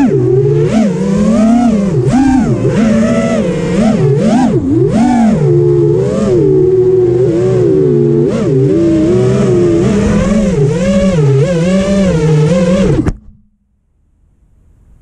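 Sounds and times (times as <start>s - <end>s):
quadcopter motors whining: 0.0s - 13.2s.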